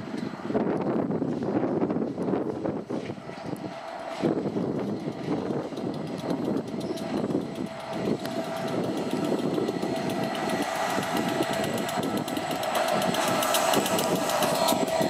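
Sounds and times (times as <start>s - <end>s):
diesel locomotive engine running: 0.0s - 15.0s
train wheels clicking over points: 0.1s - 15.0s.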